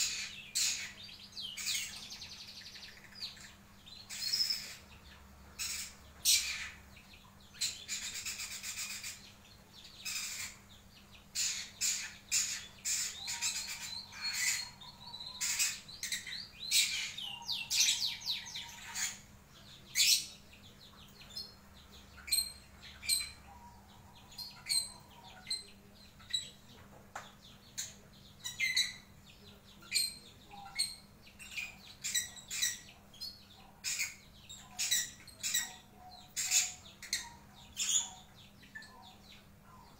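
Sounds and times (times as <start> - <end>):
lovebird chirping and chattering: 0.0 - 39.9.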